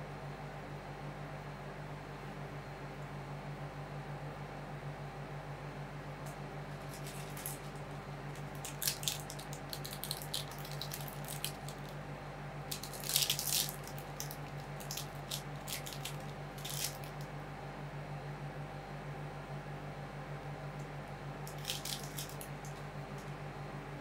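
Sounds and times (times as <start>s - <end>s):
machine low hum: 0.0s - 24.0s.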